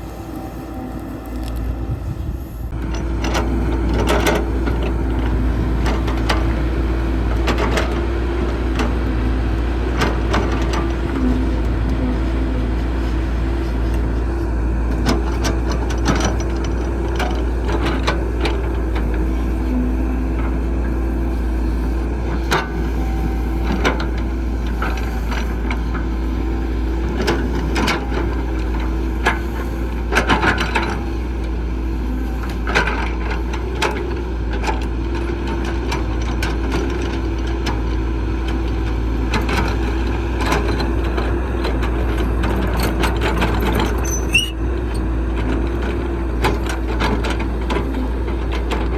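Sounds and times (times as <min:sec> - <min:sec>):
heavy construction machine rumbling: 0:00.0 - 0:48.9.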